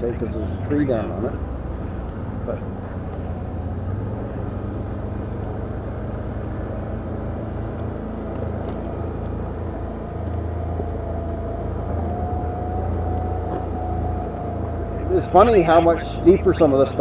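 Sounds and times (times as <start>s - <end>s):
quad engine running: 2.3s - 17.0s.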